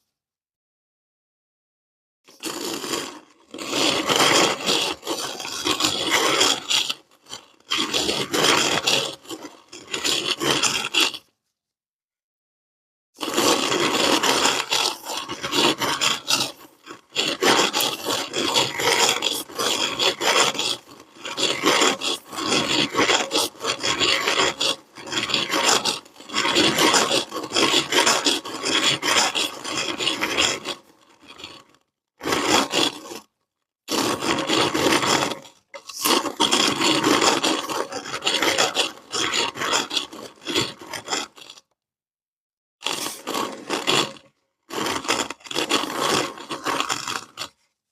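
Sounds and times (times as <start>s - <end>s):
sand crunching in meat grinder: 2.3s - 11.2s, 13.2s - 33.3s, 33.9s - 41.6s, 42.8s - 47.7s.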